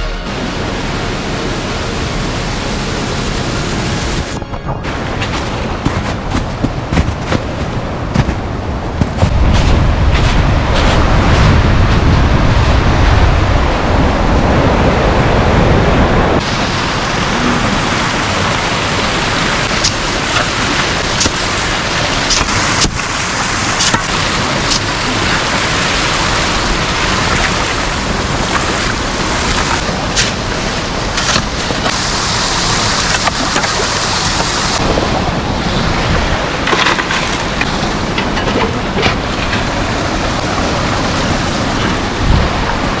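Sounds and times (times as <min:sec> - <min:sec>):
brook water rushing: 0:00.0 - 0:15.8, 0:16.4 - 0:43.0.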